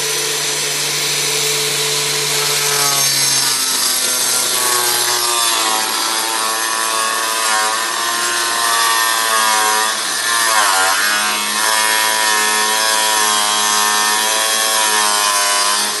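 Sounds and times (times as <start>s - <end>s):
power tool cutting metal tub: 0.0s - 16.0s.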